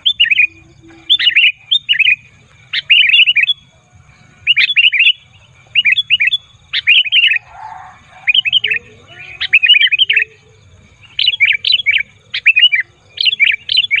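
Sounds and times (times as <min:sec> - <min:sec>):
bird chattering song: 0:00.0 - 0:14.0.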